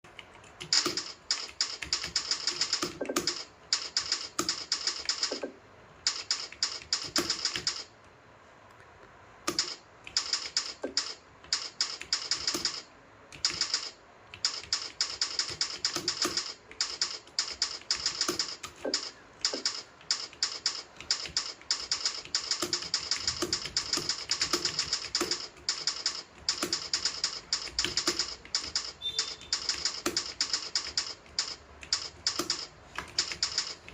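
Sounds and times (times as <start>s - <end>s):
fast typing on keyboard: 0.0s - 7.9s, 9.5s - 33.9s.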